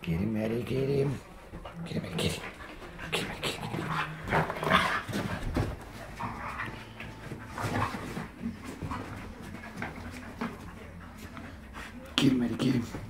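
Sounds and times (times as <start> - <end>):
dogs scuffling: 0.7 - 13.0
dogs play vocalisations: 1.1 - 13.0.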